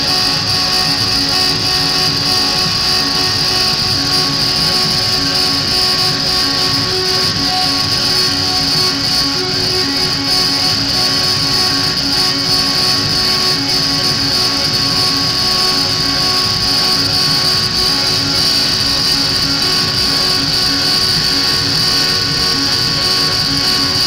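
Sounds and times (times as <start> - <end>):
electronic noise music: 0.0 - 24.0.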